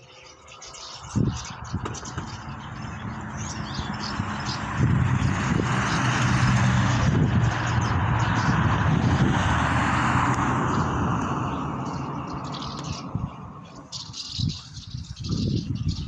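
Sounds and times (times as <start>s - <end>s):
vehicle engine hum: 1.0s - 14.7s.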